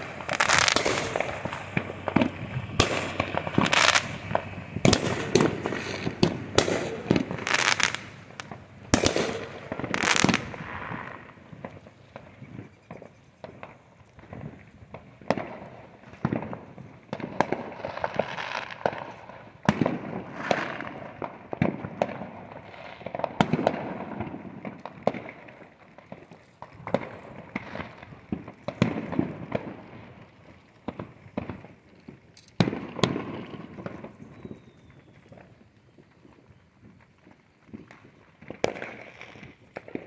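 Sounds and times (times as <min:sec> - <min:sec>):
fireworks bangs and pops: 0:00.0 - 0:40.0
fireworks crackling: 0:00.0 - 0:40.0.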